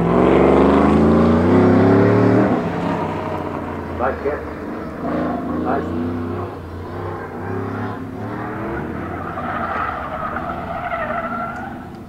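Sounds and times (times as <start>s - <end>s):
tires squealing: 0.0s - 12.0s
truck engine pulling hard: 0.0s - 12.0s.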